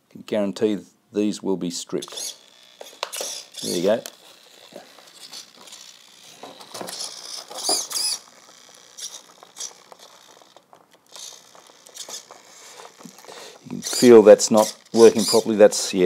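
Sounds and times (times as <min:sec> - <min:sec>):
small handling clicks and rustles: 0:02.0 - 0:16.0
servo motor whirring whine: 0:02.1 - 0:15.8.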